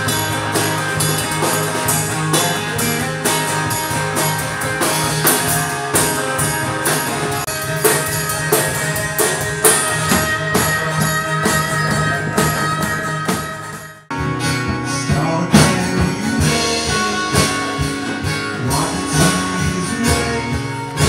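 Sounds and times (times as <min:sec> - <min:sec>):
acoustic guitar: 0:00.0 - 0:21.0
drum kit with cymbal hits: 0:00.0 - 0:21.0.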